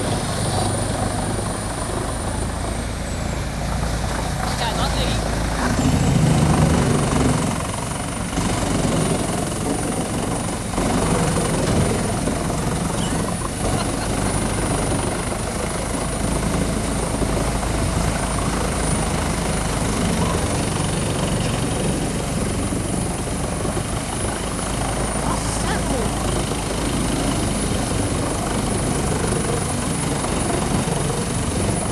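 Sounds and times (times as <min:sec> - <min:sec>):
wood chipper droning and whining: 0:00.0 - 0:31.9.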